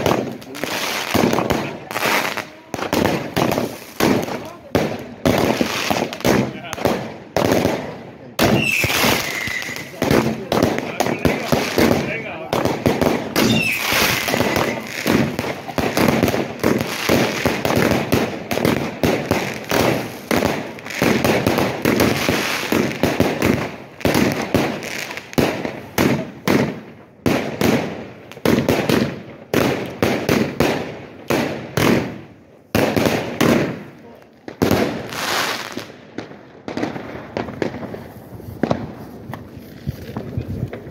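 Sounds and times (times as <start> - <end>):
firecrackers banging: 0.0 - 40.9.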